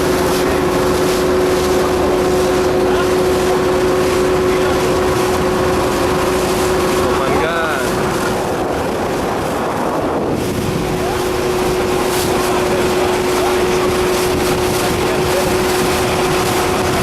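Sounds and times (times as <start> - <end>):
boat engine running: 0.0 - 17.0
wind on microphone: 0.0 - 17.0.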